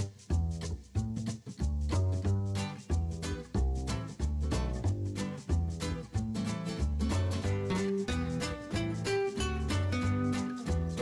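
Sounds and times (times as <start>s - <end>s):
bass line: 0.0s - 11.0s.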